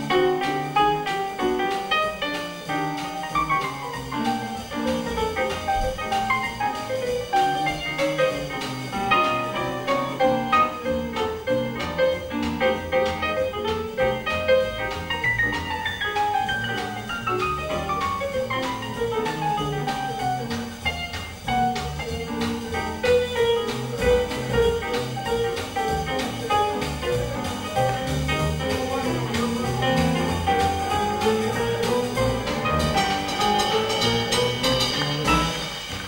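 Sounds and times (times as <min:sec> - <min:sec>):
drums keeping a beat: 0:00.0 - 0:36.0
jazz piano: 0:00.0 - 0:36.0
string bass: 0:00.0 - 0:36.0.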